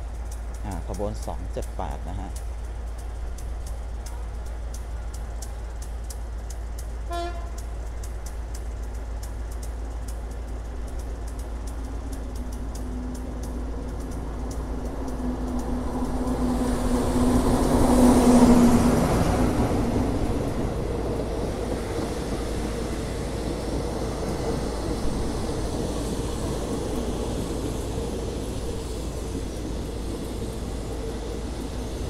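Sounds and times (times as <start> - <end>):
diesel locomotive engine hum: 0.0 - 32.0
train coaches rolling by: 0.0 - 32.0.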